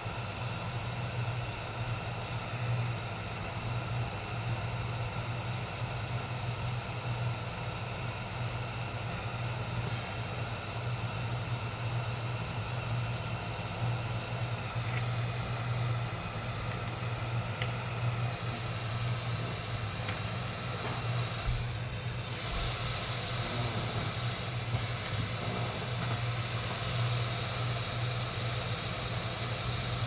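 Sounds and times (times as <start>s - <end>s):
hot air blower humming and hissing: 0.0s - 30.0s.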